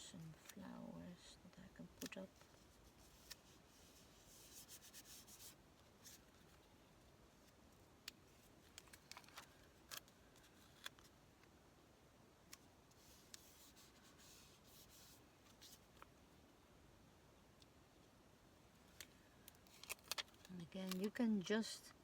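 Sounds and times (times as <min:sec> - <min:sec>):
soft paper rustle: 0:00.0 - 0:11.6, 0:12.4 - 0:16.4, 0:18.0 - 0:21.8.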